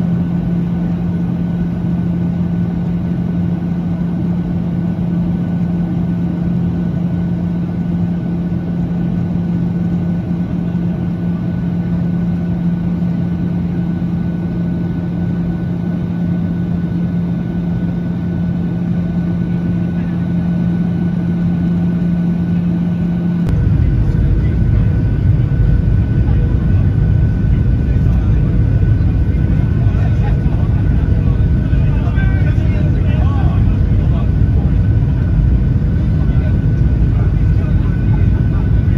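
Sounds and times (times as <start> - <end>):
airliner engine drone in cabin: 0.0 - 38.9.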